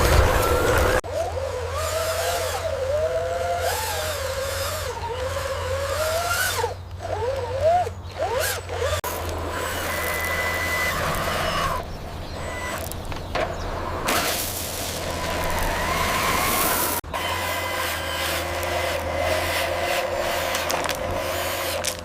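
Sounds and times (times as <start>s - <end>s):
small electric motors whining: 0.0s - 13.4s, 15.0s - 22.0s.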